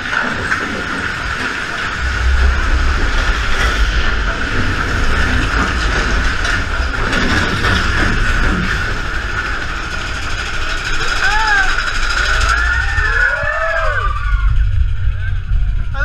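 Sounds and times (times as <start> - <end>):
roller coaster train rumbling on rails: 0.0 - 16.0.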